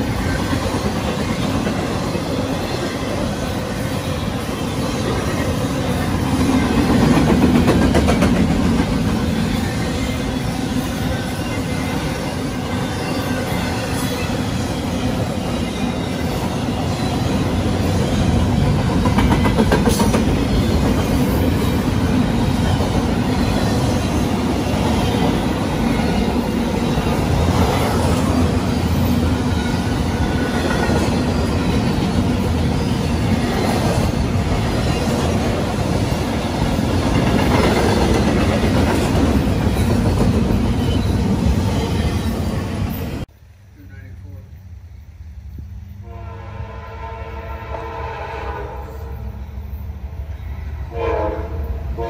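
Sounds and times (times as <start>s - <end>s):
train cars clattering: 0.0s - 43.3s
train wheels rumbling on rails: 0.0s - 44.6s.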